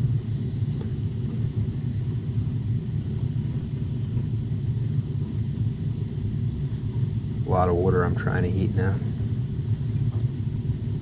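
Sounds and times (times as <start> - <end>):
boiler low rumble: 0.0 - 11.0.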